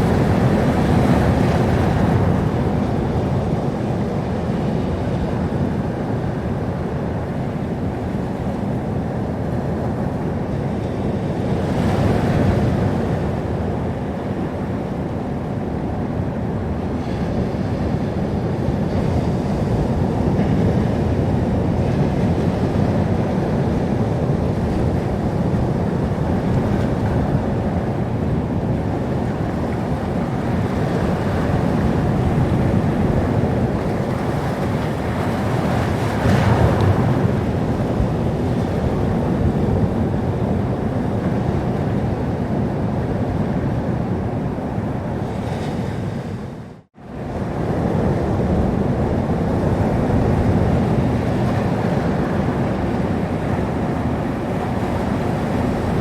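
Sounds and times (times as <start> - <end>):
waves washing in: 0.0 - 56.0
wind on microphone: 0.0 - 56.0.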